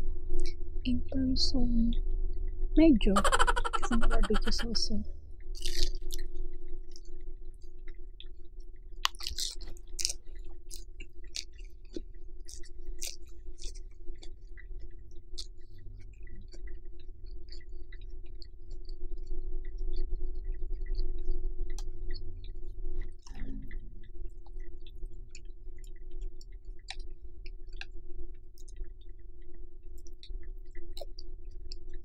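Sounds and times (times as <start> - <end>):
low hum: 0.0 - 32.0
chewing lettuce wrap: 5.5 - 32.0.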